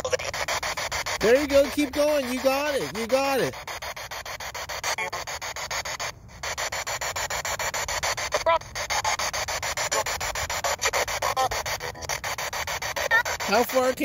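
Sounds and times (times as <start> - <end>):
chopped radio static hiss: 0.0 - 14.0
snatches of radio broadcast: 0.0 - 14.0.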